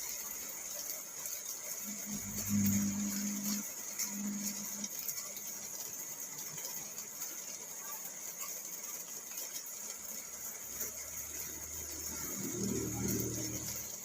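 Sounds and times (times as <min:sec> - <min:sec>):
rain drumming on car roof: 0:00.0 - 0:14.0.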